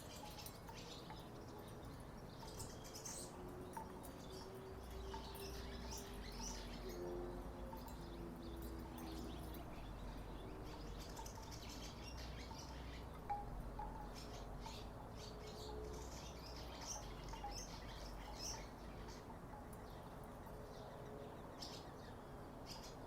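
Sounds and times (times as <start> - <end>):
wooden wind chimes knocking: 0.0 - 20.4.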